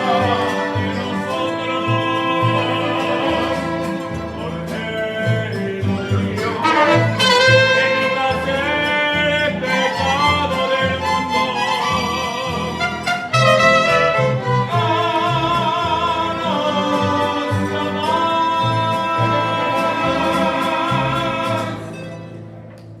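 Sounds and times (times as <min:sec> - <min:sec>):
mariachi band playing: 0:00.0 - 0:23.0.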